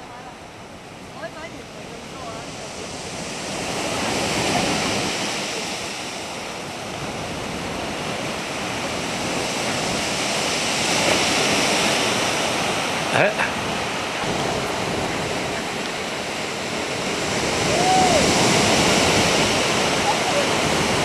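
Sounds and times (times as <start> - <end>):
surf on a pebble beach: 0.0 - 21.0.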